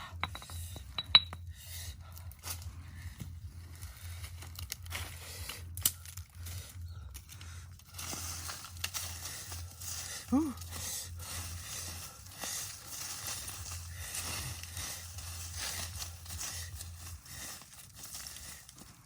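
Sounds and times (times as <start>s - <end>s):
low hum: 0.0s - 19.0s
rustling and crinkling: 2.1s - 19.0s.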